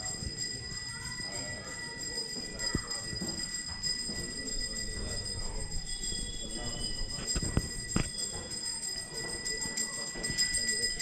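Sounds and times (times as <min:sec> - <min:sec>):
hand bell ringing: 0:00.0 - 0:11.0.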